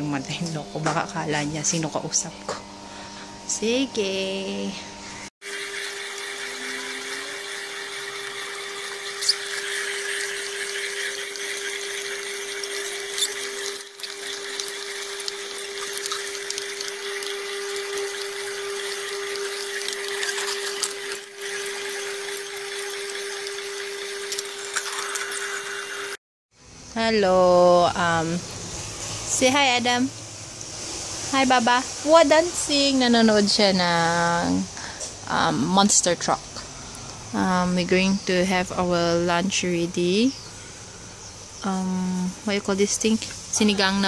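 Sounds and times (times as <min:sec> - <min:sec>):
juicer motor hum: 0:00.0 - 0:34.0, 0:34.6 - 0:44.0.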